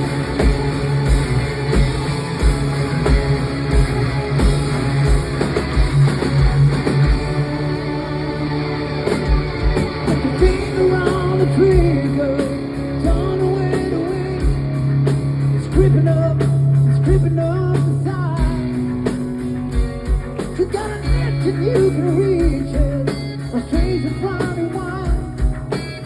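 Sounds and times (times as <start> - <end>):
bending lead guitar melody: 0.0 - 26.0
distorted electric guitars and bass: 0.0 - 26.0.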